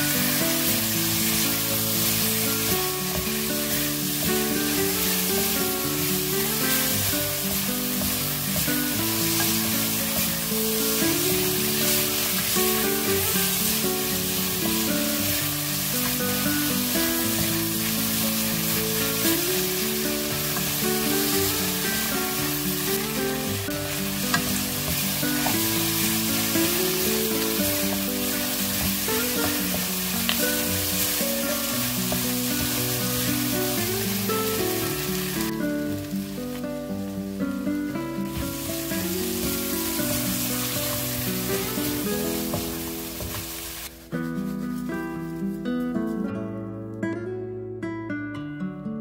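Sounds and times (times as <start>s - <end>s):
food sizzling in a pan: 0.0s - 46.0s
simple background melody: 0.0s - 46.4s.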